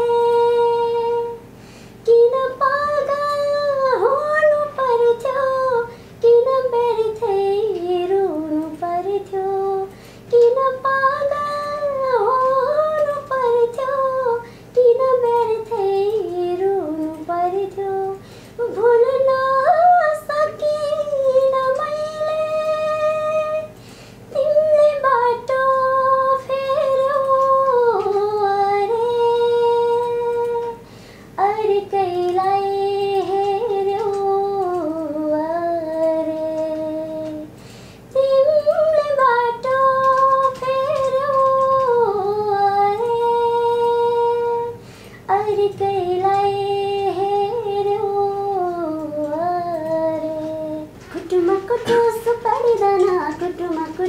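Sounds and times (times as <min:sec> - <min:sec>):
woman singing unaccompanied: 0:00.0 - 0:54.0.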